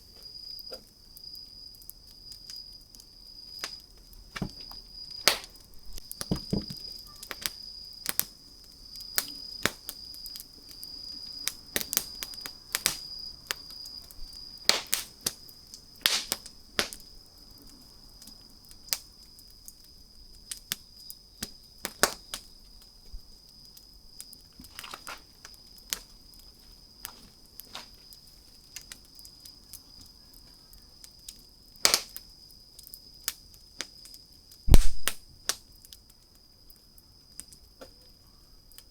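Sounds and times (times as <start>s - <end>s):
campfire crackling and popping: 0.6s - 37.8s.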